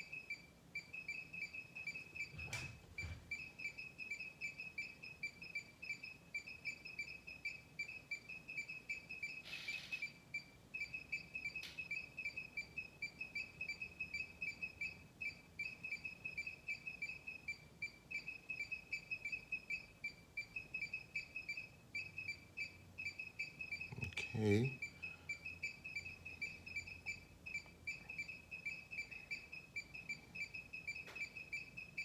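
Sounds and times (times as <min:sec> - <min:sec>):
high-pitched electronic beeping: 0:00.0 - 0:32.0.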